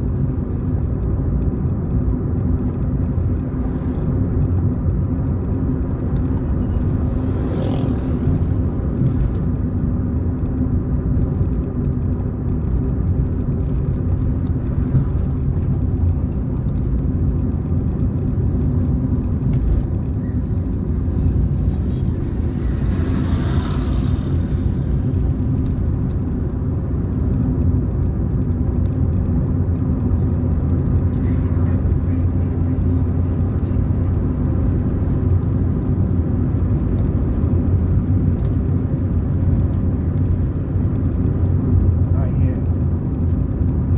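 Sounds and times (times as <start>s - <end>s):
car engine hum: 0.0s - 43.9s
road rumble: 0.0s - 43.9s.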